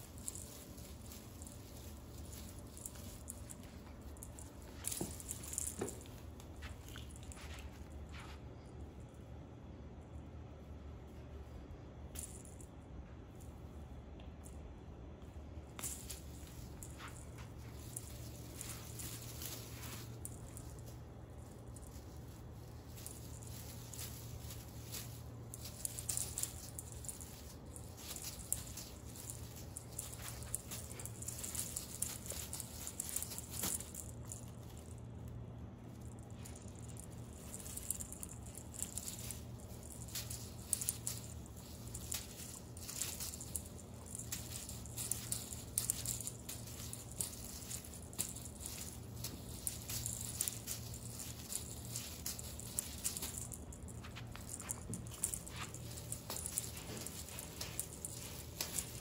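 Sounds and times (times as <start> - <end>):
tinsel crinkly rustling: 0.0 - 9.3, 15.2 - 59.0
steady low hum: 0.0 - 59.0.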